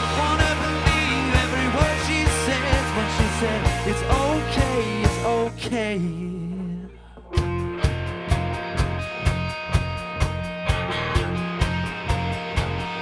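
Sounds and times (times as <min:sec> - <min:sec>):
pop-rock band playing live: 0:00.0 - 0:13.0.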